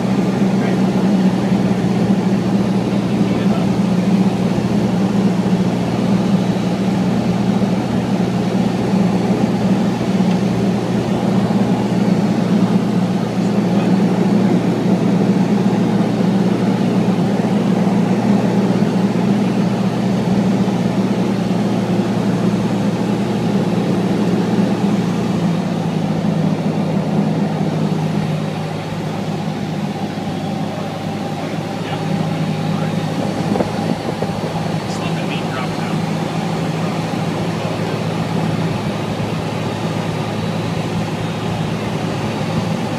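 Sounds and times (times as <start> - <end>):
airplane engine and propeller drone: 0.0 - 42.9.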